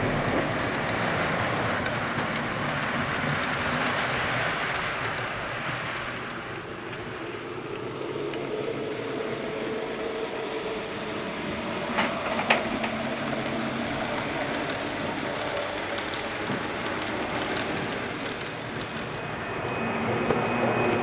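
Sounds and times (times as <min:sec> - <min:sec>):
model train rumble and hum: 0:00.0 - 0:21.0.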